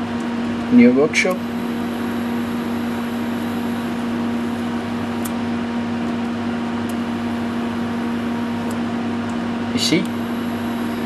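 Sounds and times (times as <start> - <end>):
power supply electrical hum: 0.0 - 11.0.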